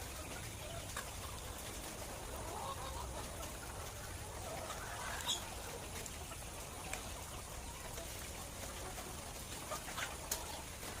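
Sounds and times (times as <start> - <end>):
faint clucking bird calls: 0.0 - 11.0.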